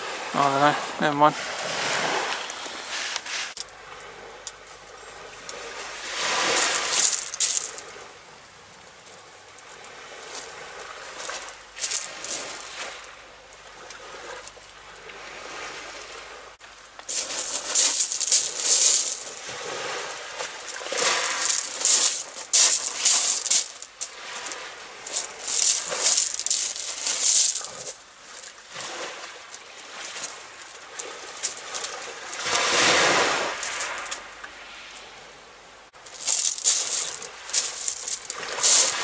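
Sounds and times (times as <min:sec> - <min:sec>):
sea surf washing on shore: 0:00.0 - 0:39.0.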